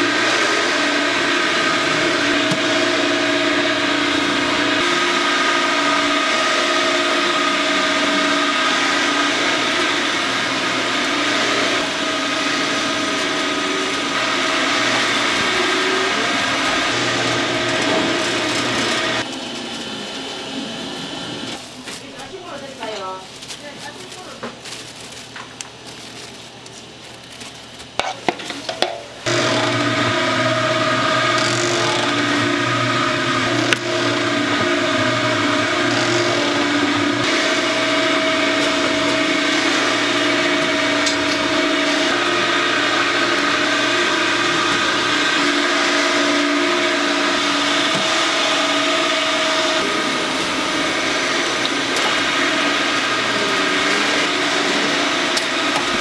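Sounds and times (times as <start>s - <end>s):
machinery motor whine: 0.0s - 21.6s, 29.2s - 56.0s.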